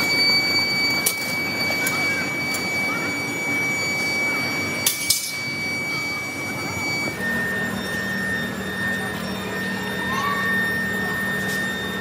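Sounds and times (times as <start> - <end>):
factory machinery whining: 0.0 - 12.0.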